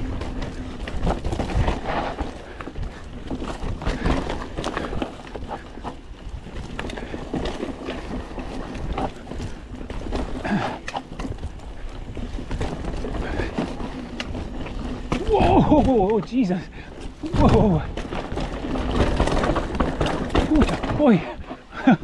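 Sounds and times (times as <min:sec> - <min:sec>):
bike rattling and clacking: 0:00.0 - 0:22.0
bike tyres rumbling on dirt: 0:00.0 - 0:22.0.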